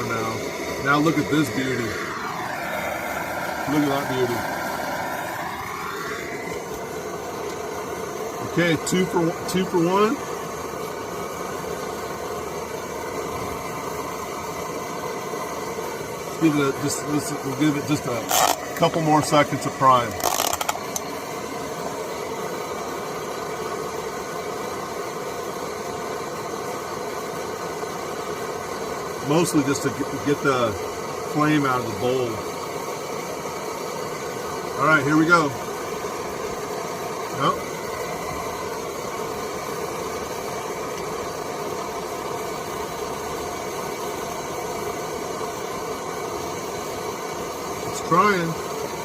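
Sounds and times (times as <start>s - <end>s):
stove burners rushing flame: 0.0s - 49.0s.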